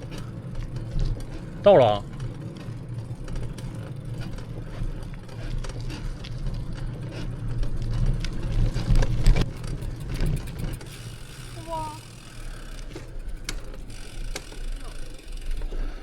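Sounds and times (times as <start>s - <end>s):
bicycle rumbling: 0.0s - 16.0s
freewheel ticking: 0.0s - 16.0s.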